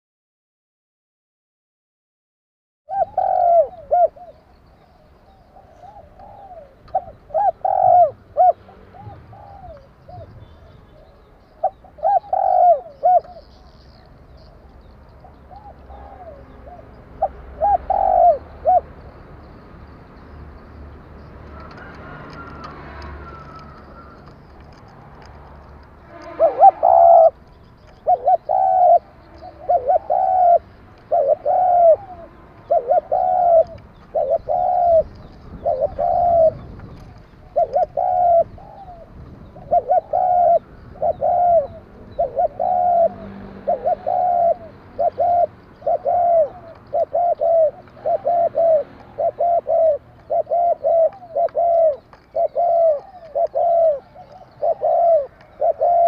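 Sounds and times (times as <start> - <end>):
dove cooing: 2.9 - 14.6, 15.2 - 18.9, 21.4 - 24.8, 26.1 - 56.0.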